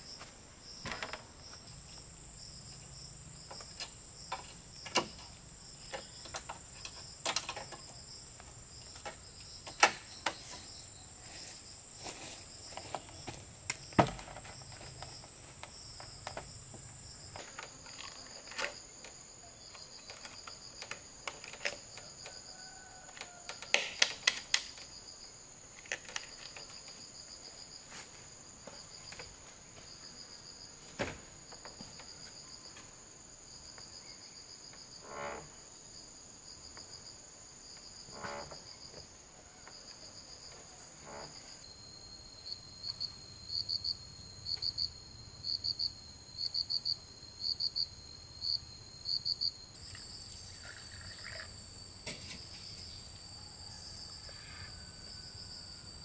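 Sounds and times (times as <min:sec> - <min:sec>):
forest insects droning: 0:00.0 - 0:56.0.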